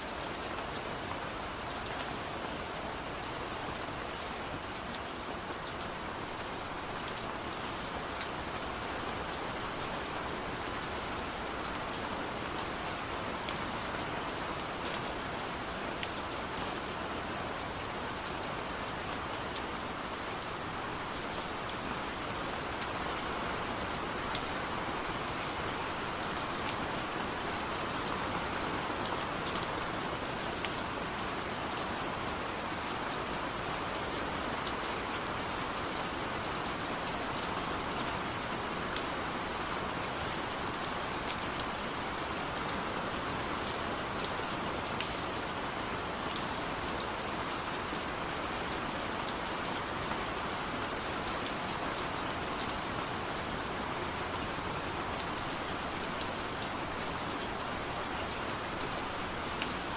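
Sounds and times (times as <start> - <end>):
rain drops ticking on a surface: 0.0 - 59.9.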